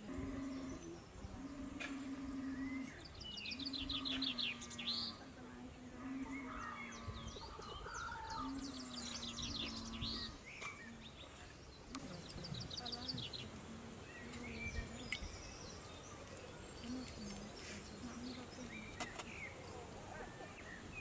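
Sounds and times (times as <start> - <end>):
background hiss: 0.0 - 21.0
small birds chirping and trilling: 0.0 - 21.0.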